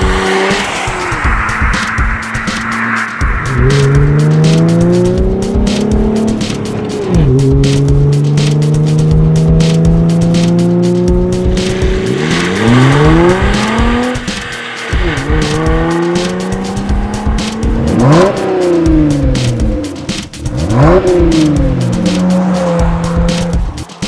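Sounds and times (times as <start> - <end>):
car engine revving: 0.0 - 24.0
music with steady beat: 0.0 - 24.0.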